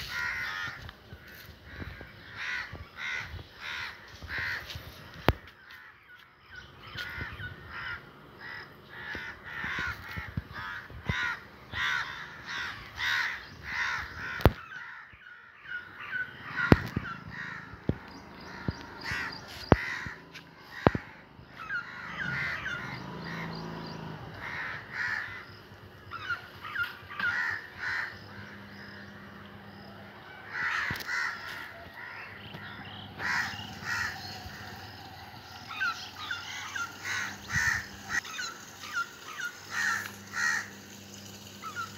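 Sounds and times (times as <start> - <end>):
crows cawing: 0.0 - 41.9.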